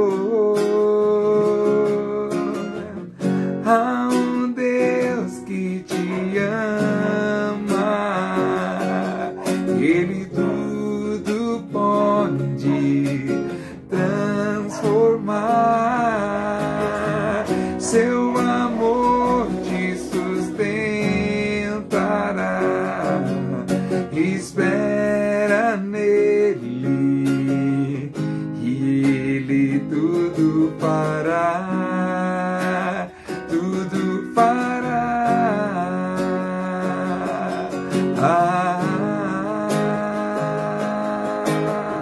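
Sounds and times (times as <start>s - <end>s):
acoustic guitar strumming: 0.0s - 42.0s
man singing wordless notes: 0.0s - 42.0s.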